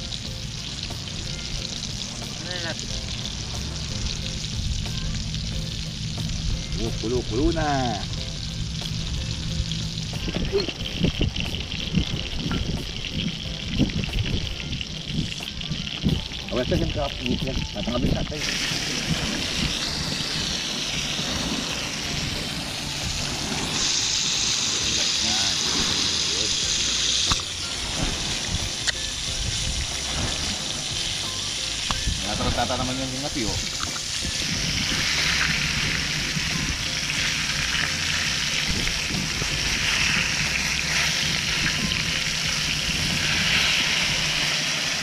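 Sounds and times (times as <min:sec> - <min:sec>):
fish sizzling in a frying pan: 0:00.0 - 0:45.0.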